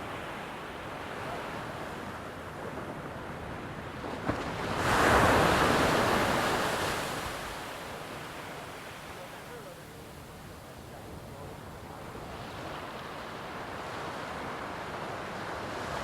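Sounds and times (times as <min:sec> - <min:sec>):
ocean surf washing on shore: 0:00.0 - 0:16.0.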